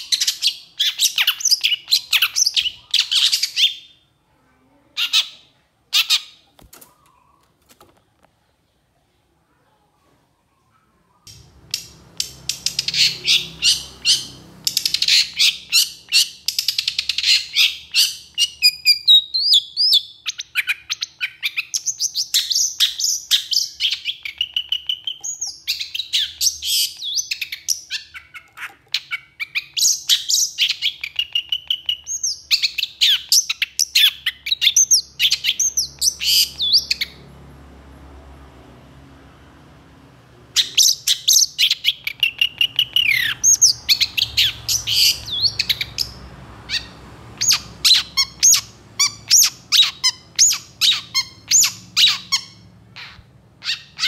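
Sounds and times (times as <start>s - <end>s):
bird singing harsh and whistled notes: 0.0s - 4.0s, 11.3s - 37.3s, 40.6s - 54.0s.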